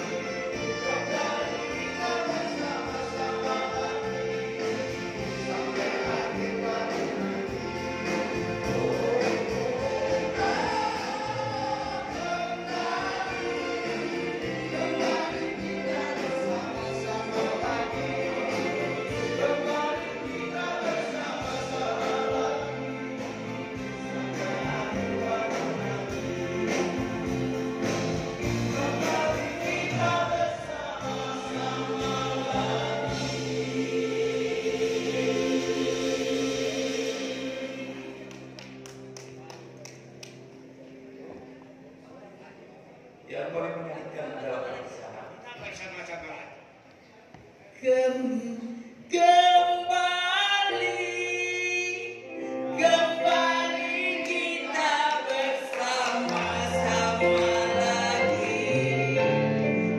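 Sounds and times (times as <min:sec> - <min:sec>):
voices singing together: 0:00.0 - 0:39.0, 0:49.8 - 0:59.9
live band music: 0:00.0 - 0:41.6, 0:49.3 - 0:59.9.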